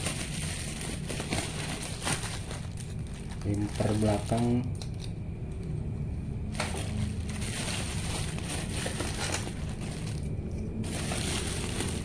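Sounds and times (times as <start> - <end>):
plastic packaging crinkling: 0.0 - 5.1, 6.5 - 12.0.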